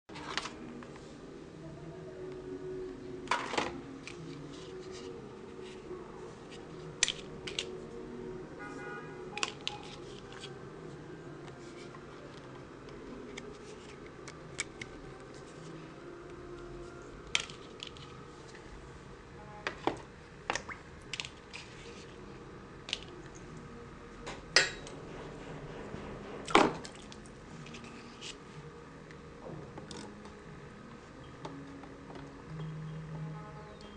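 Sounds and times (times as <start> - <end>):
low background hum: 0.1 - 33.9.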